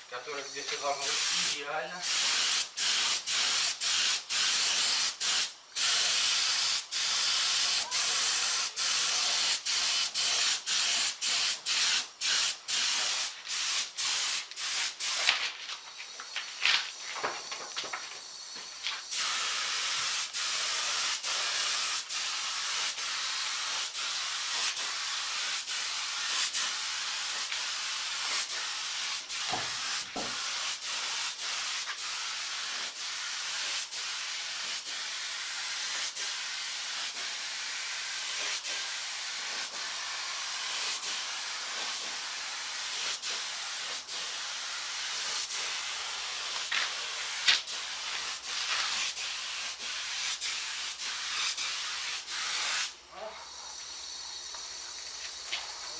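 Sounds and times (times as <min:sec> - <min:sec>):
paint spray gun hissing: 0:00.1 - 0:55.9.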